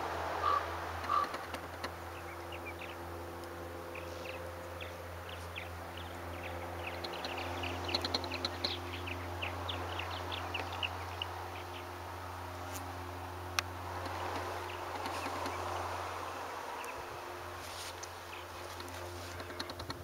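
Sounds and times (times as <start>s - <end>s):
low engine drone: 0.0s - 20.0s
small birds chirping: 0.4s - 20.0s.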